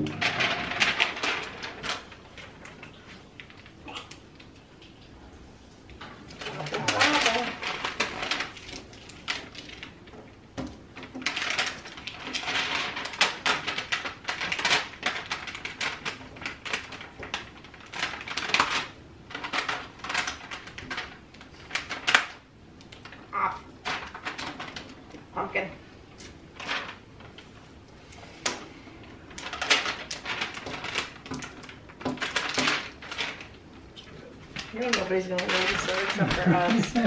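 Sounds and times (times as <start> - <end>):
vinyl and paper crinkling: 0.0 - 37.0.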